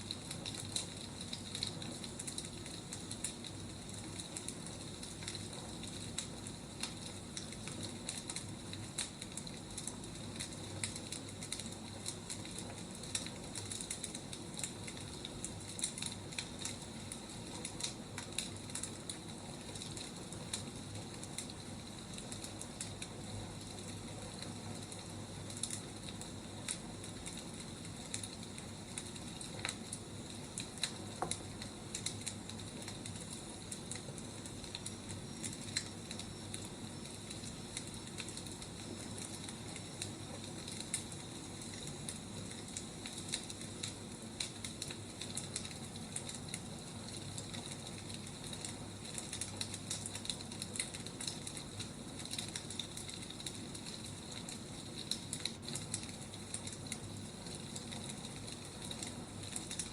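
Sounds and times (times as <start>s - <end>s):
firewood crackling and popping: 0.0s - 59.9s
fire hissing: 0.1s - 59.9s.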